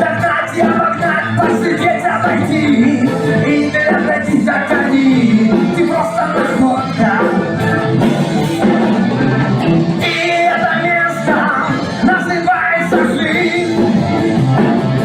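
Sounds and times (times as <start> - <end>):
band playing: 0.0 - 15.0
person singing: 0.0 - 15.0.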